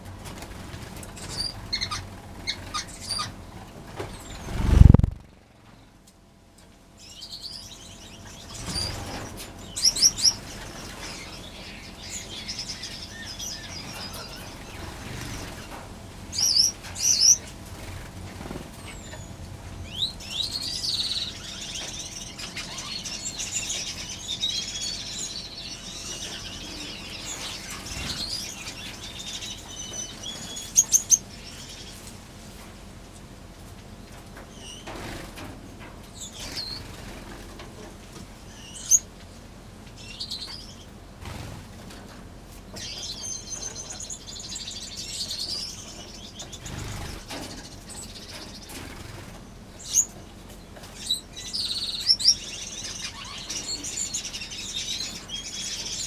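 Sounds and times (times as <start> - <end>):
finches chirping and twittering: 0.3 - 5.4, 7.0 - 32.1, 36.1 - 37.6, 38.4 - 39.1, 40.0 - 41.9, 42.7 - 56.0.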